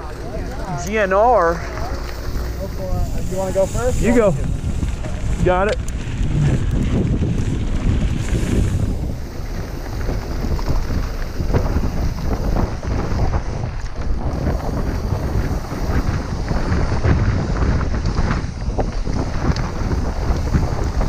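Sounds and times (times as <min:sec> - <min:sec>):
bike clattering: 0:00.0 - 0:21.0
tyres crunching on gravel: 0:00.0 - 0:21.0
wind on microphone: 0:00.0 - 0:21.0.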